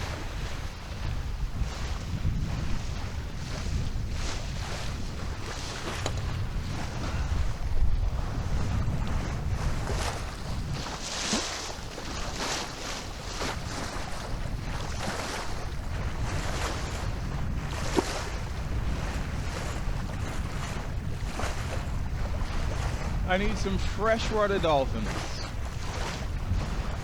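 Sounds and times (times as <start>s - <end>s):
water splashing along boat hull: 0.0s - 27.0s
wind rumble on microphone: 0.0s - 27.0s.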